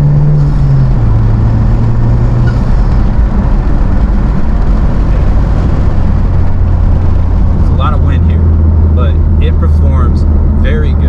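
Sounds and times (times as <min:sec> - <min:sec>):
car engine running: 0:00.0 - 0:11.0
heavy wind noise: 0:00.0 - 0:11.0.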